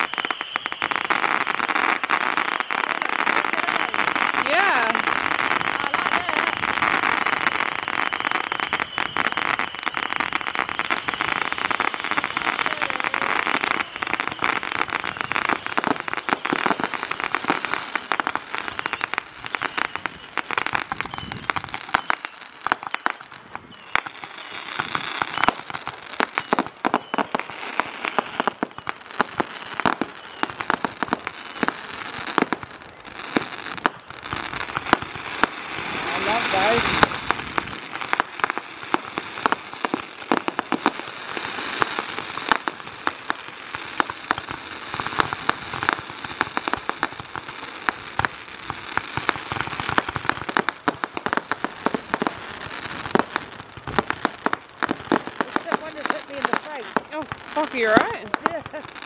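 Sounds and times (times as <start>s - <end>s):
firework rockets hissing: 0.0s - 59.0s
fireworks popping and crackling: 0.0s - 59.0s.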